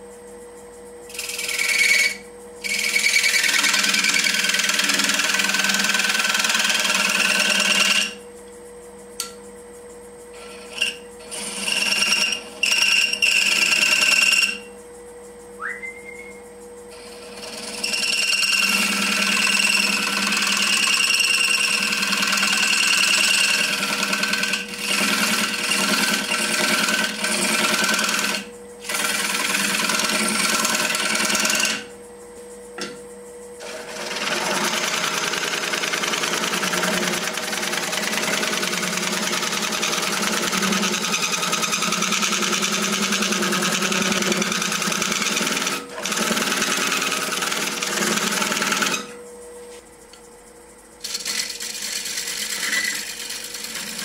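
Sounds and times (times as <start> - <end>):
lathe hum: 0.0 - 9.4, 10.0 - 54.0
tool scraping wood on lathe: 1.1 - 8.2, 10.3 - 14.7, 16.9 - 31.9, 33.6 - 49.8, 51.0 - 54.0.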